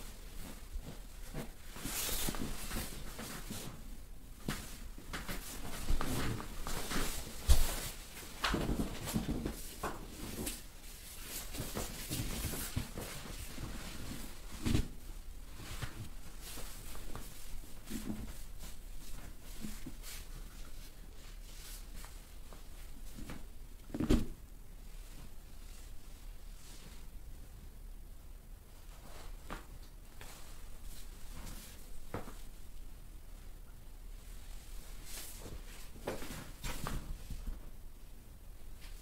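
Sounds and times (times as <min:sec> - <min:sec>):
fabric rustling: 0:00.0 - 0:27.3, 0:28.7 - 0:37.8.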